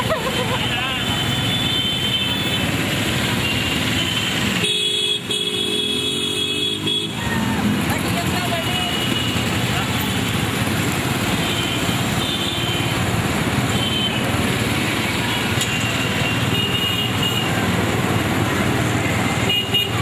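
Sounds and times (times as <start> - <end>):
vehicle engines at low speed: 0.0 - 20.0.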